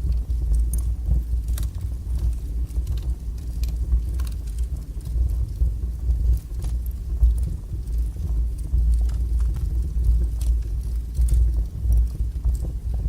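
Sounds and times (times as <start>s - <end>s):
burning logs crackling and popping: 0.0s - 13.0s
wood fire roaring: 0.0s - 13.0s.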